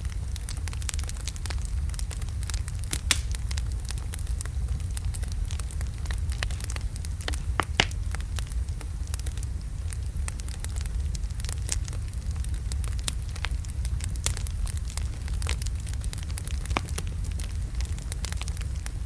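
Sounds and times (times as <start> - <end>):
fire crackles and pops: 0.0 - 19.0
low rumble of flame: 0.0 - 19.0.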